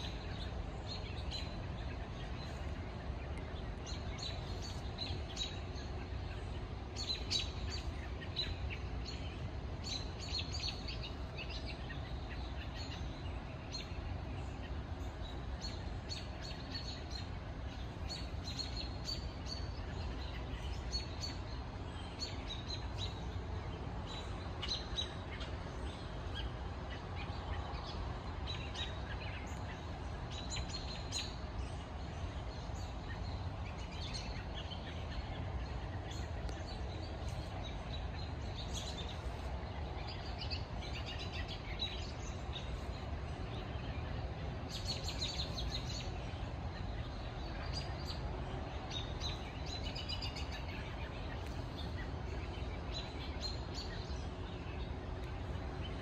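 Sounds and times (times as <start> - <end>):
birds chirping: 0.0 - 56.0
low background noise: 0.0 - 56.0.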